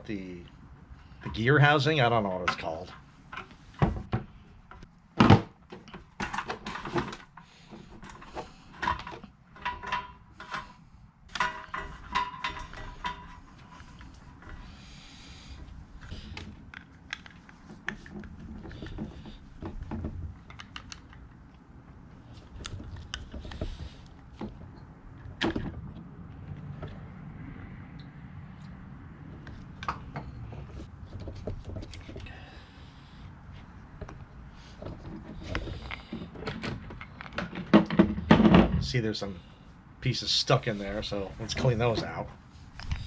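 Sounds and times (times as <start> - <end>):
parts knocking and clattering: 1.0 - 27.2, 29.3 - 32.6, 33.9 - 39.2.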